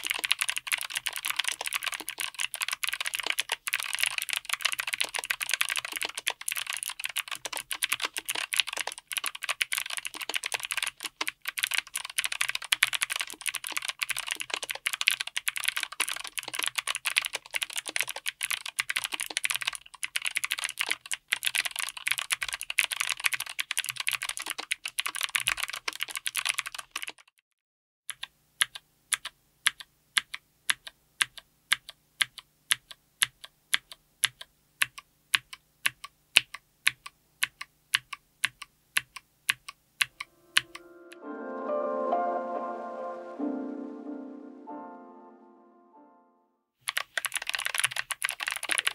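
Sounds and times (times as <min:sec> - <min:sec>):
fast typing on clicky keyboard: 0:00.0 - 0:27.4, 0:28.1 - 0:40.8, 0:46.8 - 0:48.9.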